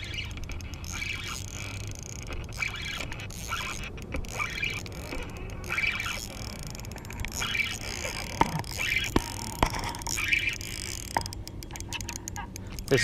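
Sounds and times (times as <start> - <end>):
fishing reel cranking: 0.0 - 13.0
steady low hum: 0.0 - 13.0.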